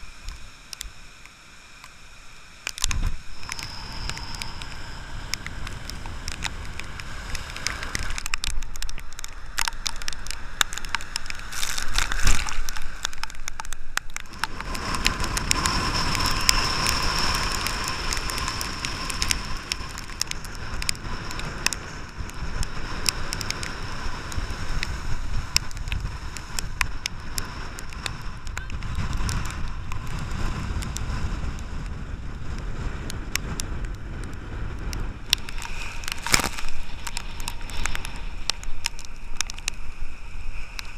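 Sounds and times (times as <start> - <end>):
wind hitting camera crackles: 0.0 - 40.9
strong wind: 2.1 - 40.9
storm surf breaking: 2.6 - 40.9.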